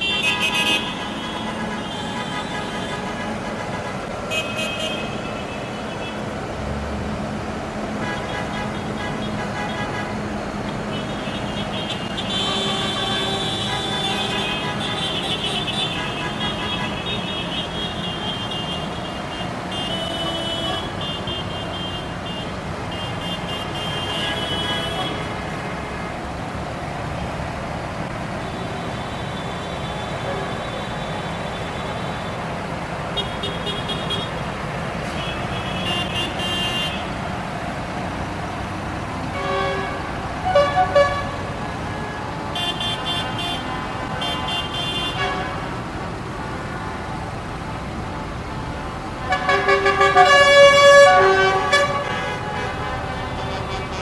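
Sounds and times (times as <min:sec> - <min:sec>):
vehicle horns blasting: 0:00.0 - 0:06.2, 0:08.0 - 0:26.1, 0:28.4 - 0:32.5, 0:33.1 - 0:37.2, 0:39.2 - 0:45.8, 0:49.2 - 0:54.0
tractor engines running: 0:00.0 - 0:54.0.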